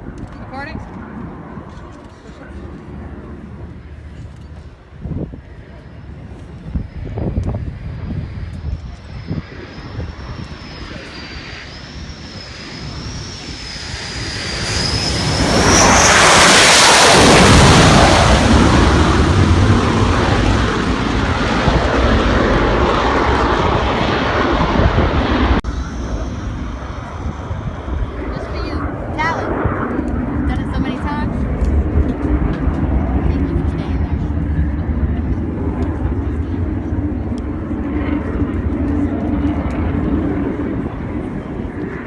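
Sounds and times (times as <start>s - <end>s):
jet aircraft roar: 0.0s - 42.0s.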